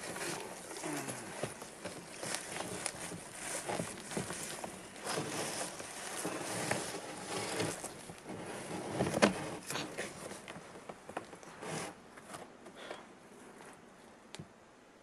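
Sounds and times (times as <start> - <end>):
cardboard rustling and scraping: 0.0 - 13.9.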